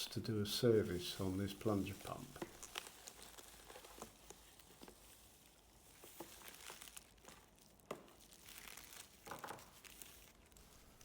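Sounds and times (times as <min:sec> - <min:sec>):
plastic packaging crinkling: 0:00.6 - 0:11.0.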